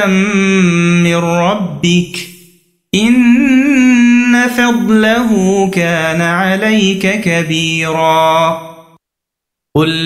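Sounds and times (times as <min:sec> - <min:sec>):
person chanting recitation: 0:00.0 - 0:02.4, 0:03.0 - 0:09.0, 0:09.8 - 0:10.0.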